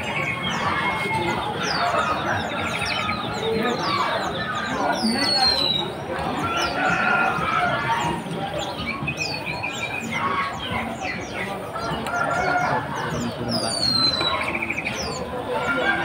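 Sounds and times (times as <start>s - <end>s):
caged birds chirping and whistling: 0.0s - 16.0s.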